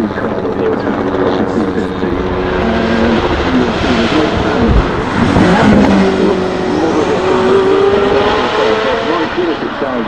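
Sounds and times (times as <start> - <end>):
car engine accelerating past: 0.0 - 10.0.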